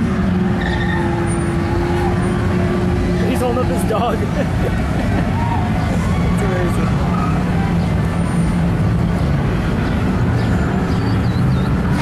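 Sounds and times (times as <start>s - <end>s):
car engines passing slowly: 0.0s - 12.0s.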